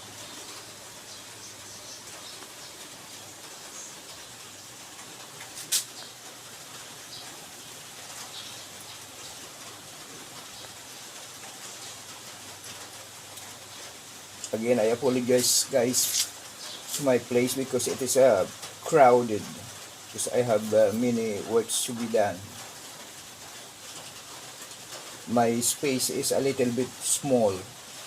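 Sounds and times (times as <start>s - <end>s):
air conditioner fan hiss and hum: 0.0s - 28.0s.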